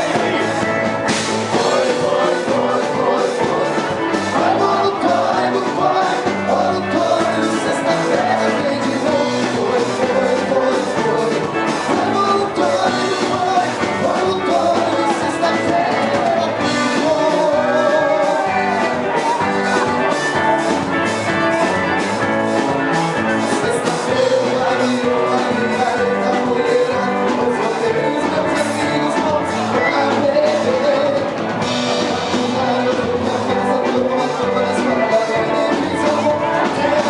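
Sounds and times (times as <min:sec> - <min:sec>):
rock music with singing: 0:00.0 - 0:37.0.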